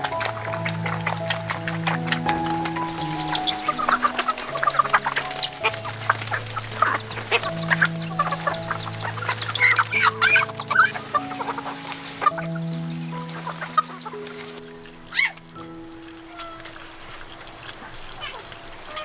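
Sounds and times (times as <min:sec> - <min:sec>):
chickens clucking: 0:00.0 - 0:19.0
soft background music: 0:00.0 - 0:19.0.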